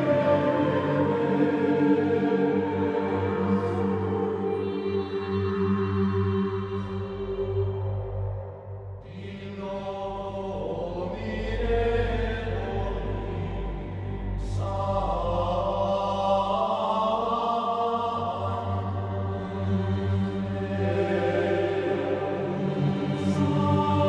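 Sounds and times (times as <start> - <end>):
slow choral chanting: 0.0 - 24.0.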